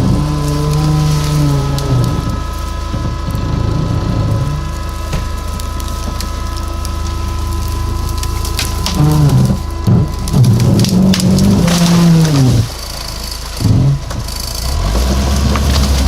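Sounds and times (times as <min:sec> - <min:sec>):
brush and branches crackling: 0:00.0 - 0:16.0
off-road vehicle engine rumbling: 0:00.0 - 0:16.0.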